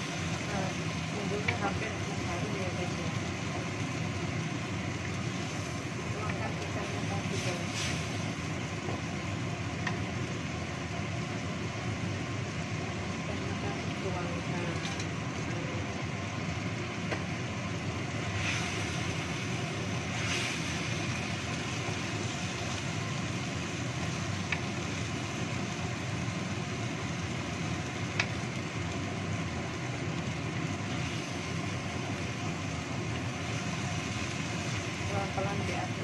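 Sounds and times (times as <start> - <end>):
food sizzling in a wok: 0.0 - 36.0.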